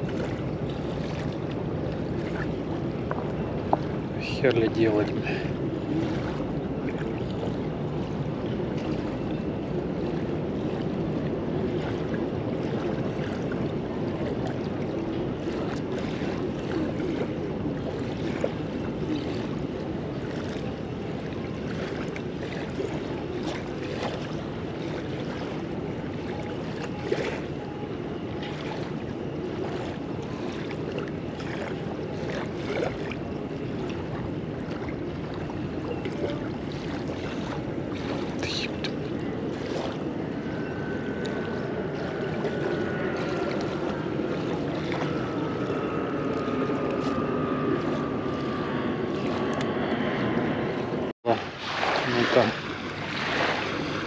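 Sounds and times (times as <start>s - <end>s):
water lapping on shore: 0.0s - 54.0s
wind on microphone: 0.0s - 54.0s.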